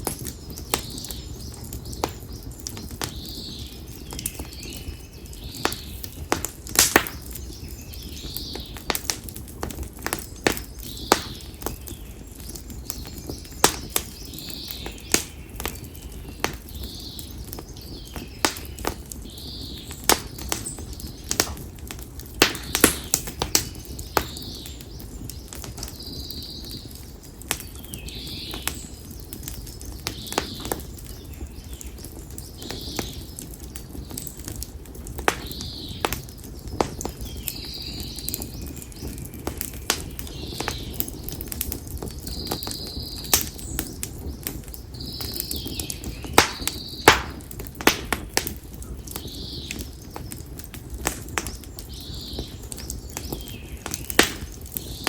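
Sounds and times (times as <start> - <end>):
firewood crackling in a bonfire: 0.0 - 55.0.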